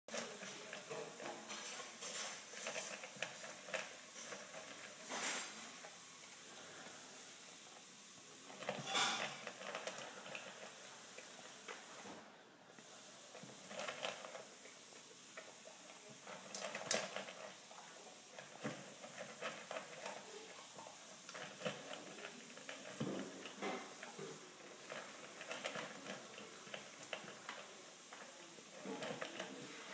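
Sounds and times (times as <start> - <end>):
dog crunching dry kibble: 0.1 - 6.0, 7.8 - 11.8, 13.2 - 29.6.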